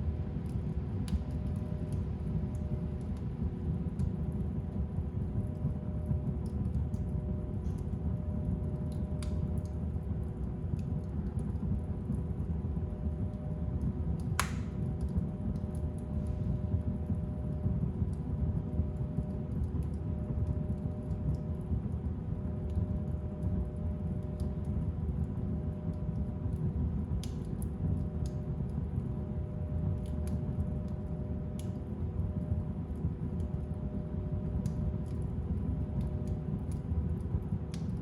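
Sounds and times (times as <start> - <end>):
fire rumbling in fireplace: 0.0 - 38.0
fire crackling and popping: 0.2 - 38.0.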